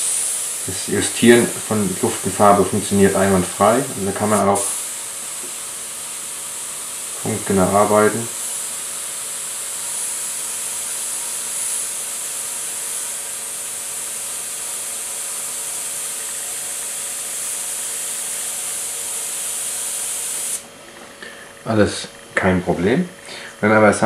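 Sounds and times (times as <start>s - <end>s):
airbrush air hissing: 0.0s - 20.7s.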